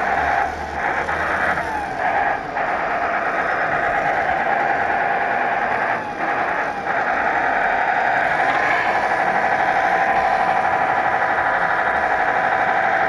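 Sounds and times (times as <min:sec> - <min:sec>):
simulated diesel truck engine: 0:00.0 - 0:13.0.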